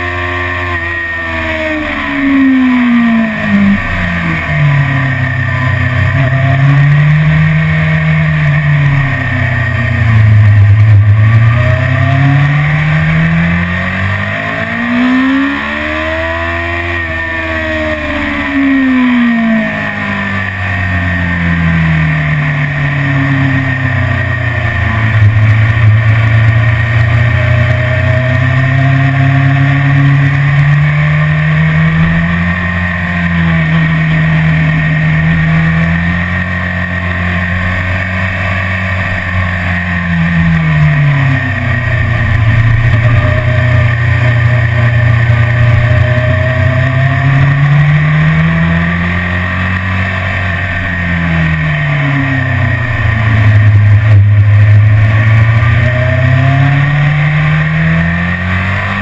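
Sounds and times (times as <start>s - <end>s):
motorcycle engine revving: 0.0s - 59.0s
rushing noise: 0.0s - 59.0s.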